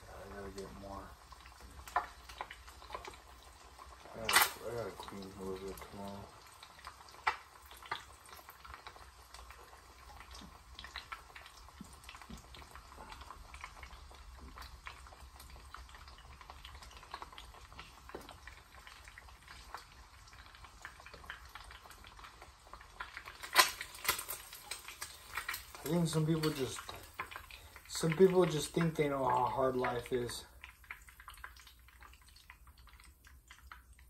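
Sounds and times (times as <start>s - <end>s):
eggs sizzling in a pan: 0.0s - 34.0s.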